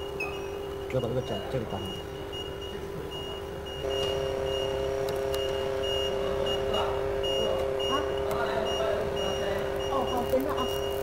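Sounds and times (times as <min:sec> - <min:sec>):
high electronic beeping: 0:00.0 - 0:11.0
vacuum pump hum: 0:00.0 - 0:11.0.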